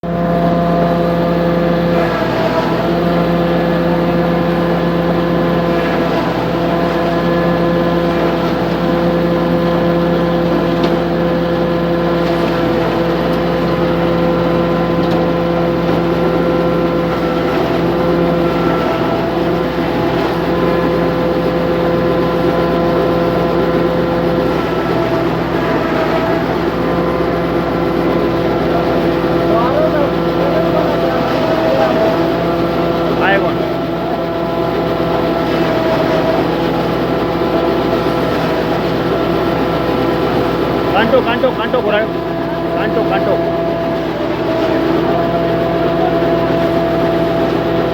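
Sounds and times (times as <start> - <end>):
baler machine droning: 0.0 - 47.9.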